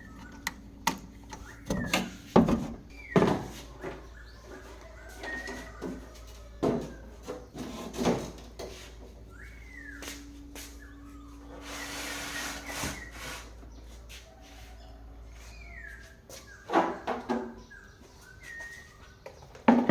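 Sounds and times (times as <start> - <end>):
bird-like chirp: 0.0 - 7.7, 8.8 - 19.9.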